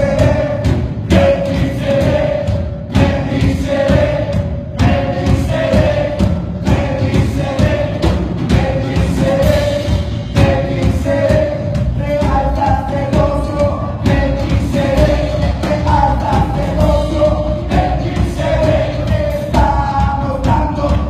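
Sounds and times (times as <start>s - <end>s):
choir singing with beat: 0.0s - 21.0s.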